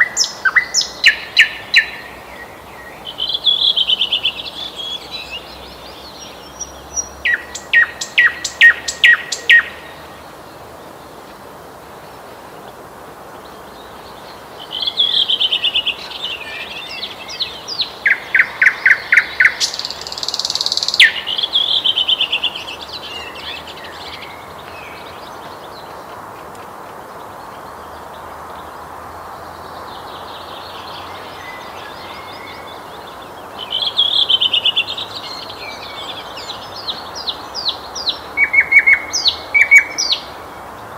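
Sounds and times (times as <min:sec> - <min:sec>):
nightingale singing: 0:00.0 - 0:11.0, 0:13.6 - 0:26.2, 0:26.9 - 0:40.9
faint background hiss: 0:00.0 - 0:40.9.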